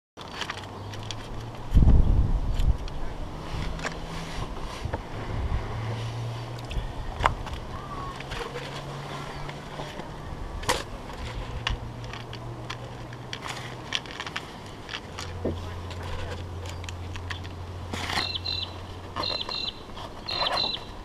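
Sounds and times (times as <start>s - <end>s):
low engine hum: 0.6s - 21.0s.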